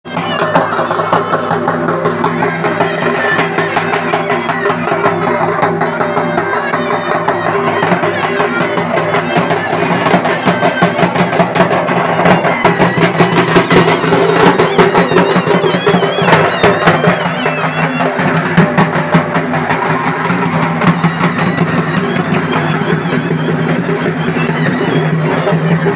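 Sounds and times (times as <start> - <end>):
fast dense drumming: 0.1 - 25.9.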